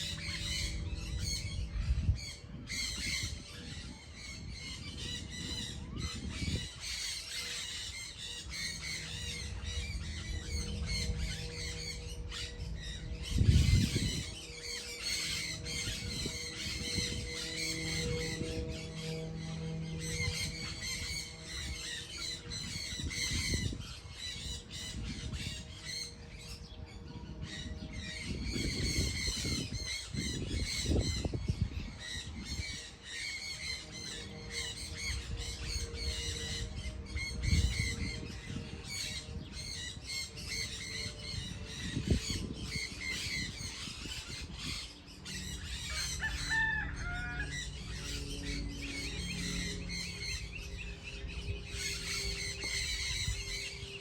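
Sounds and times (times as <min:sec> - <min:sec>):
flock of birds chirping and squawking: 0:00.0 - 0:54.0
low warbling bird call: 0:00.0 - 0:54.0.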